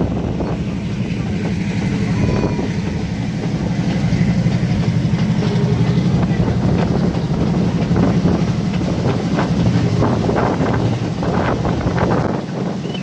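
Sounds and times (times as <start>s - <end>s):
train wheels rumbling on rails: 0.0s - 13.0s
clattering over rails: 0.2s - 13.0s.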